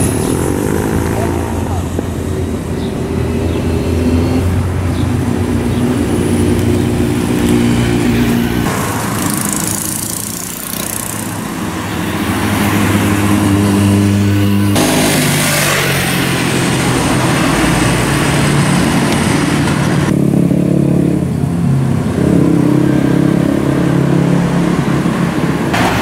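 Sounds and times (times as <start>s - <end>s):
motorcycles riding past: 0.0s - 26.0s.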